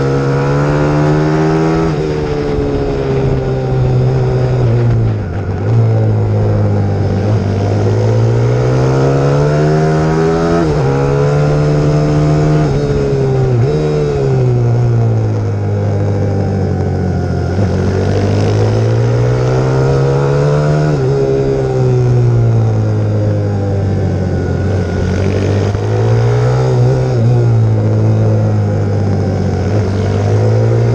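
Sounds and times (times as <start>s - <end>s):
motorbike engine revving: 0.0s - 30.9s.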